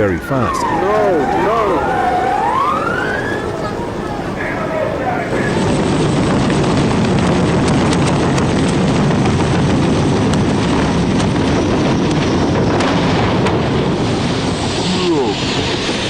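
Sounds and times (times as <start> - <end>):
helicopter rumble: 0.0 - 16.0
wind buffeting microphone: 0.0 - 16.0.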